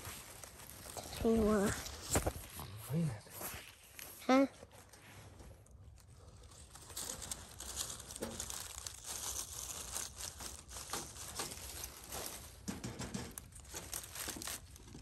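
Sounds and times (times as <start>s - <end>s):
wire cage shifting in leaves: 0.0s - 2.8s, 4.8s - 15.0s
dry leaves crackling underfoot: 0.0s - 15.0s.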